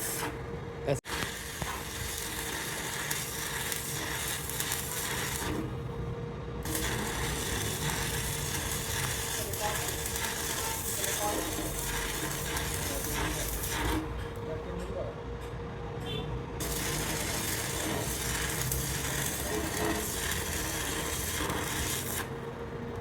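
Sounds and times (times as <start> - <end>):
arc welding crackling sizzle: 0.0 - 5.9, 6.6 - 14.5, 16.6 - 23.0.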